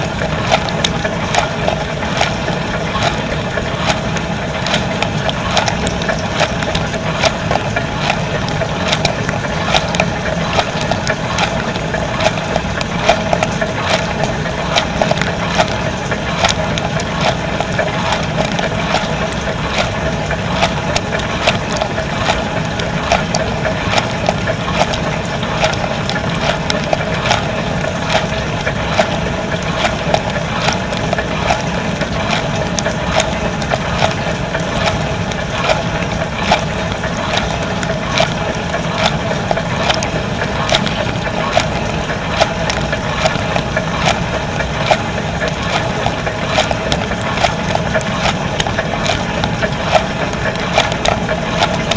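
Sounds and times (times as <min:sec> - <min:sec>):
dishwasher hum: 0:00.0 - 0:51.9.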